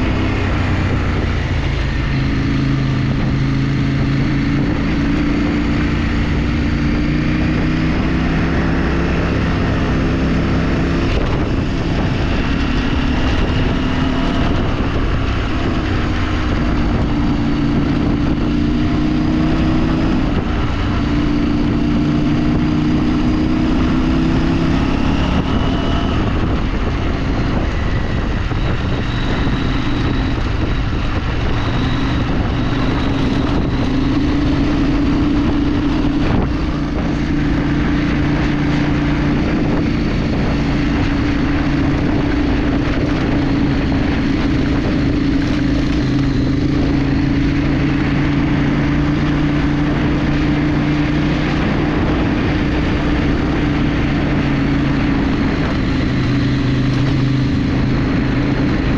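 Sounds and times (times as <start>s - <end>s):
road and wind noise: 0.0s - 58.9s
vehicle engine droning: 0.0s - 58.9s.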